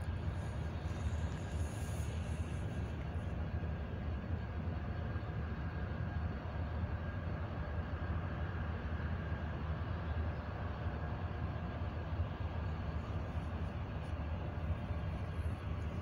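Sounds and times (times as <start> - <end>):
faint steady whine: 0.0 - 16.0
locomotive idling rumble: 0.0 - 16.0.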